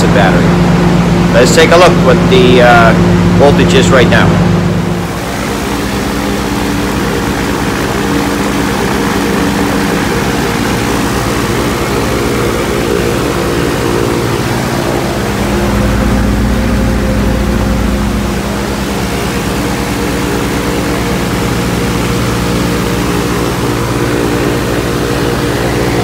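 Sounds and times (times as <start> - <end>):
airplane engine and propeller: 0.0 - 26.0.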